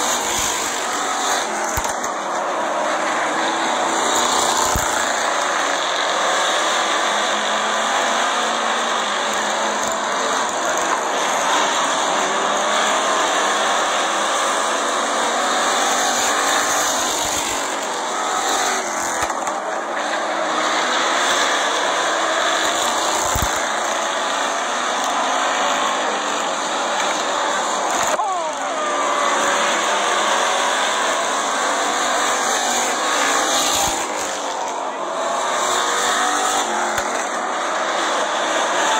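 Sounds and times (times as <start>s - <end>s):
race car engines: 0.0s - 38.9s.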